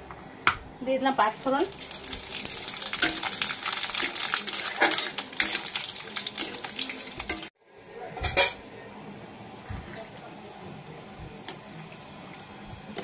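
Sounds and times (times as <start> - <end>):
spices frying in hot oil: 0.8 - 13.0.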